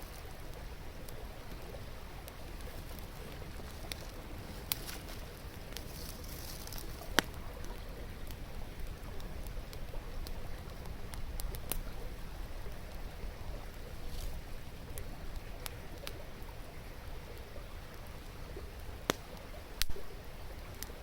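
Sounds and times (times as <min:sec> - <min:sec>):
campfire crackling and popping: 0:00.0 - 0:21.0
river flowing: 0:00.0 - 0:21.0.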